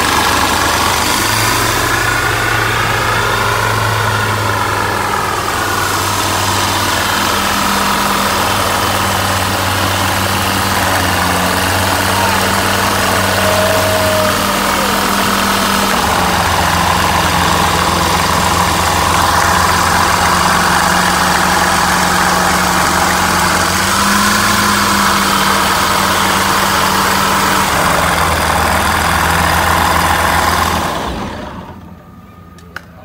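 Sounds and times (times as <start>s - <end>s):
aircraft engine running: 0.0s - 32.8s.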